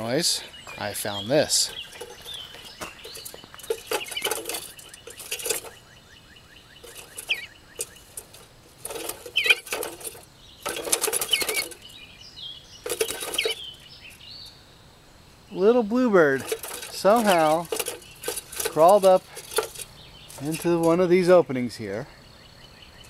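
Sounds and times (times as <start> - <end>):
bird chirps: 0.0 - 23.0.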